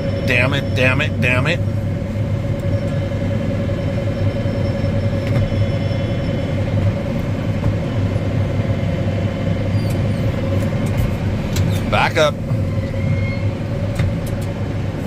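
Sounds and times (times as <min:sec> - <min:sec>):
combine harvester engine drone: 0:00.0 - 0:15.0
machinery whine: 0:00.0 - 0:15.0.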